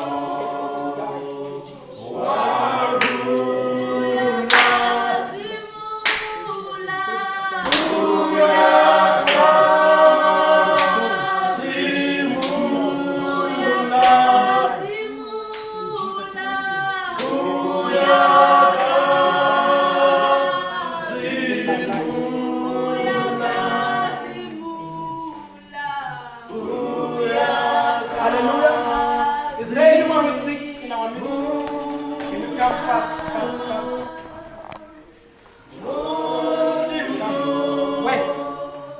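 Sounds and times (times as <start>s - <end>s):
congregation singing a cappella: 0.0s - 38.9s.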